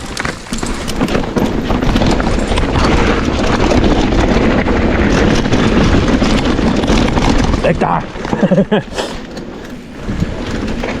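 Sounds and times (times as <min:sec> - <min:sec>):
bike rattling over rough ground: 0:00.0 - 0:11.0
bike tyre noise: 0:00.0 - 0:11.0
wind rushing over microphone: 0:00.0 - 0:11.0.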